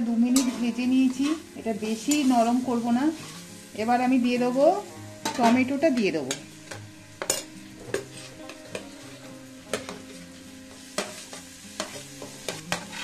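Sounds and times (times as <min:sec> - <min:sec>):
soft background music: 0:00.0 - 0:13.0
vegetables sizzling in oil: 0:00.0 - 0:13.0.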